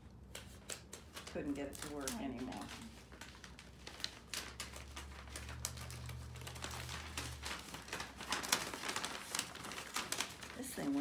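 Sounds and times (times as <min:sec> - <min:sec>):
paper and cardboard crinkling: 0:00.3 - 0:11.0.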